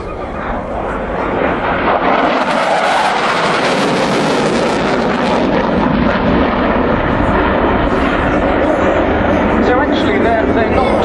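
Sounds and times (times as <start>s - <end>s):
jet roaring past: 0.0s - 11.0s.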